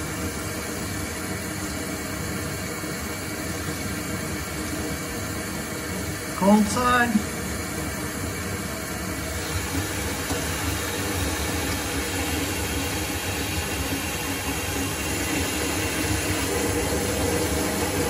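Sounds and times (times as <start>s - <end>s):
faucet water rushing: 0.0s - 18.0s.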